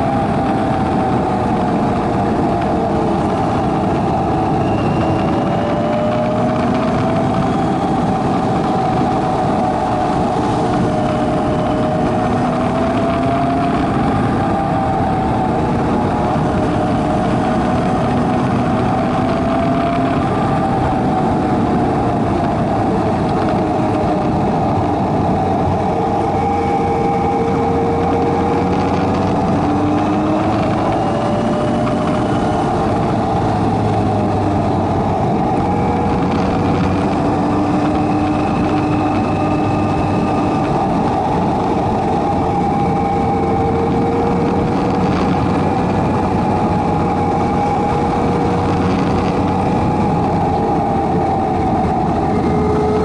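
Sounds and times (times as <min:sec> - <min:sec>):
motorcycle engine cruising: 0:00.0 - 0:53.0
wind and road noise: 0:00.0 - 0:53.0.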